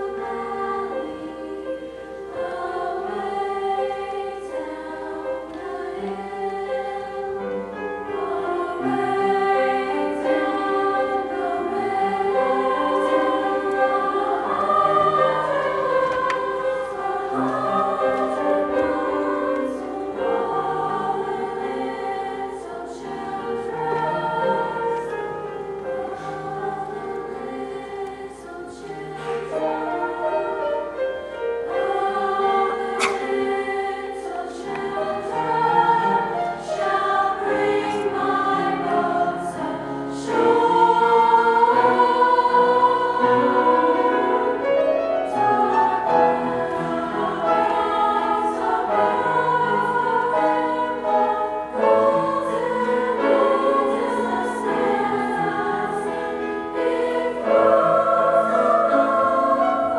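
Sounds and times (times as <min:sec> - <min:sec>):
girls choir singing: 0:00.0 - 0:59.9.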